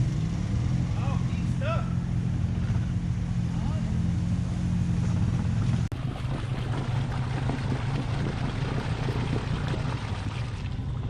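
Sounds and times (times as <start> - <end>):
atv engine running in mud: 0.0 - 11.0.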